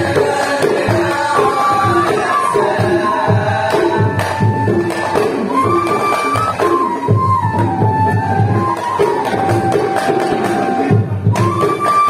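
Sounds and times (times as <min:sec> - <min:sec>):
hand drums beating rhythm: 0:00.0 - 0:12.0.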